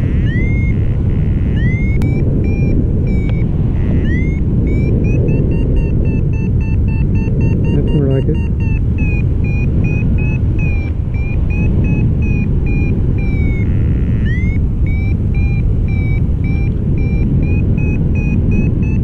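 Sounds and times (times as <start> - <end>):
variometer beeping: 0.0 - 19.0
wind rush on microphone: 0.0 - 19.0.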